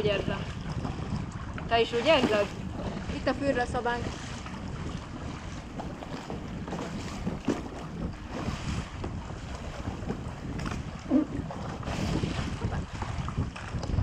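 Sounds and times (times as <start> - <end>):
short water splashes: 0.0 - 14.0
water lapping against kayak: 0.0 - 14.0
wind buffeting microphone: 0.0 - 14.0.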